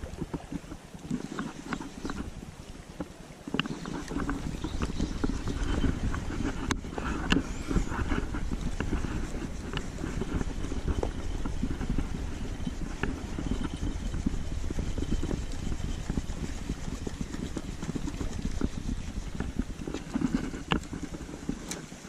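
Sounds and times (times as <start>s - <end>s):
small clicks and ticks: 0.0s - 22.0s
small waves lapping: 0.0s - 22.0s
wind buffeting microphone: 0.0s - 22.0s.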